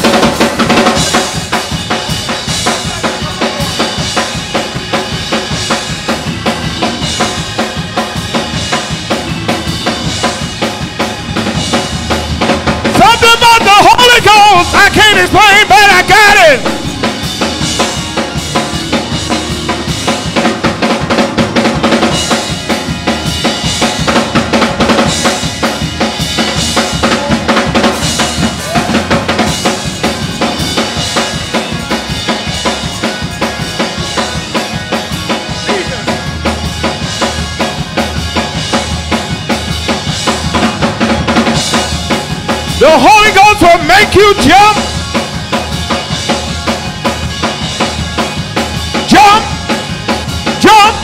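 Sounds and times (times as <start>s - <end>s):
drum kit fast beat: 0.0s - 51.0s
organ chords: 0.0s - 51.0s.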